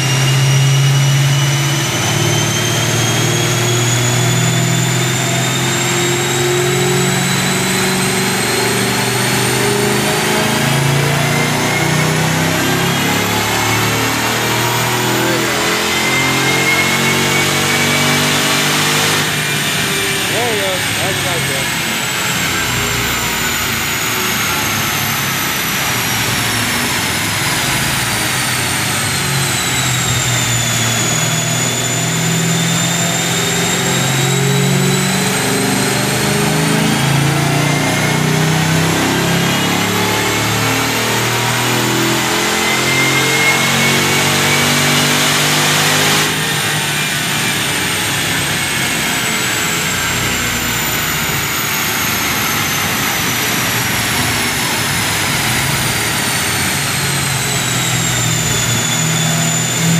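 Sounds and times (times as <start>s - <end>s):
high whine: 0.0s - 45.0s, 46.3s - 59.9s
car engine revving under load: 0.0s - 59.9s.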